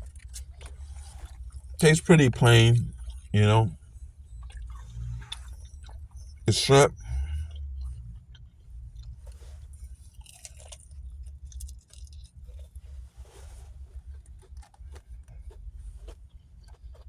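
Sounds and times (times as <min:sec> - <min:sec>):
chewing crunchy food: 0:00.0 - 0:17.0
low steady rumble: 0:00.0 - 0:17.0.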